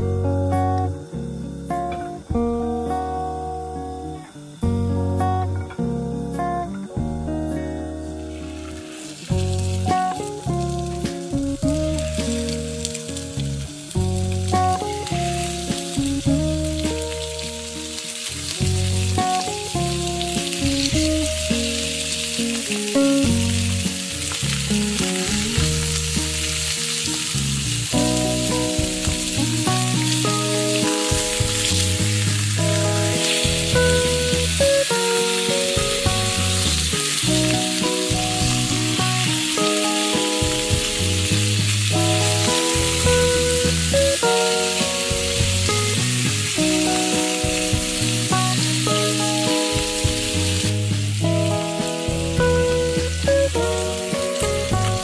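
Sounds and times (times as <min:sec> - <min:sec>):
background music of held notes: 0:00.0 - 0:55.0
fish sizzling in a pan: 0:00.2 - 0:06.4, 0:07.2 - 0:55.0.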